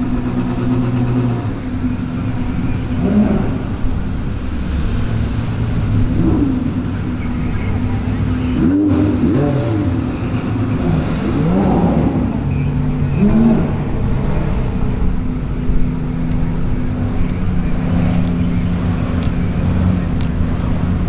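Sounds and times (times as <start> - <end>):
sports car engines rolling past: 0.0 - 21.0.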